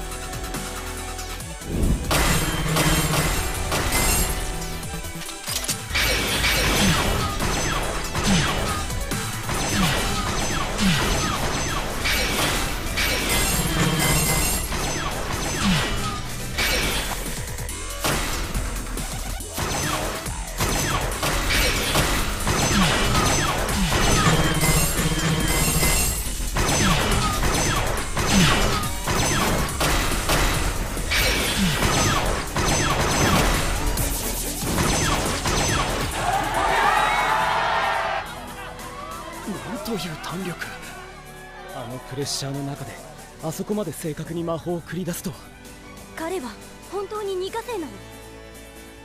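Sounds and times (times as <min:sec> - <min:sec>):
tense background music: 0:00.0 - 0:49.0.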